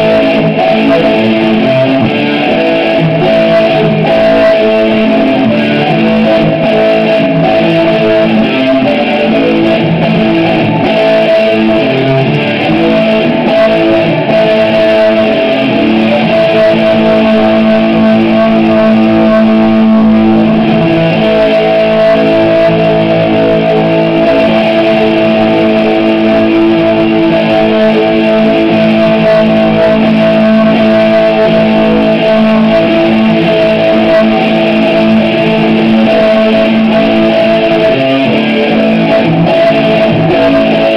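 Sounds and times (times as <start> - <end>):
electric guitar sustained high tone: 0.0 - 40.9.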